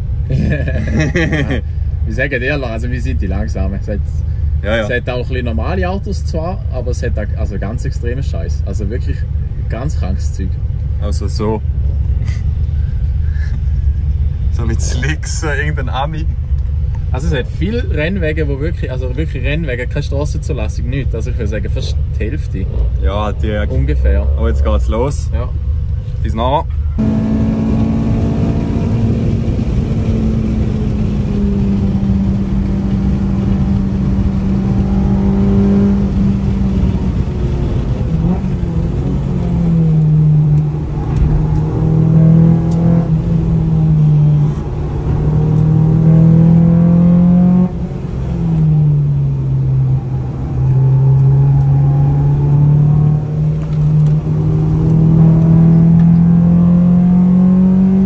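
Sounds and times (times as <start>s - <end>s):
car engine at high revs: 0.0s - 58.0s
road and tyre noise: 0.0s - 58.0s.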